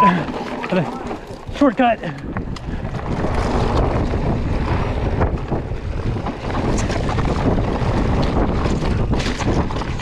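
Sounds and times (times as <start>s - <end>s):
bike rattling over rocks: 0.0s - 10.0s
bike tyres rumbling: 0.0s - 10.0s
wind buffeting microphone: 0.0s - 10.0s.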